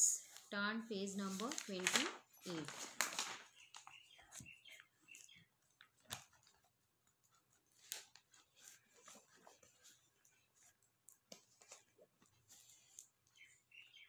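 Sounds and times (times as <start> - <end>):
paper textbook rustling: 0.2 - 13.6.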